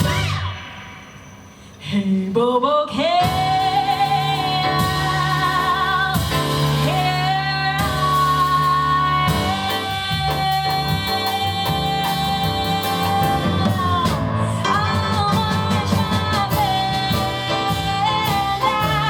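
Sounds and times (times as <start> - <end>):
woman singing with vibrato: 1.8 - 19.0
jazz piano trio: 3.1 - 19.0.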